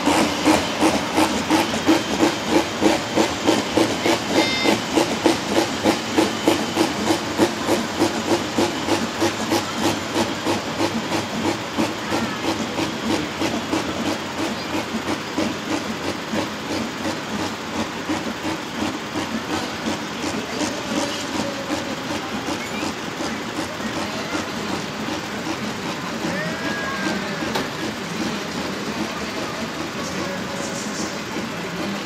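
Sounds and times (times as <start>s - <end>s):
tractor diesel engine chugging: 0.0s - 32.0s.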